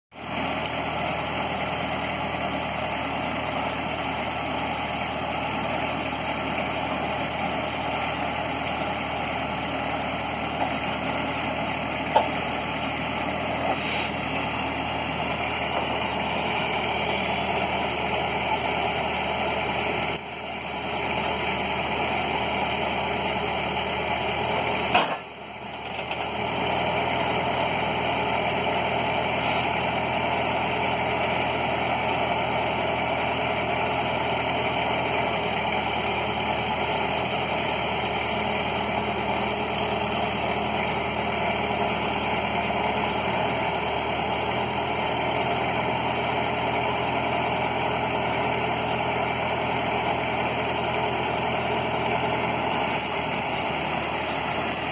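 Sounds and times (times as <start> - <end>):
sawmill engine running: 0.2 - 54.9.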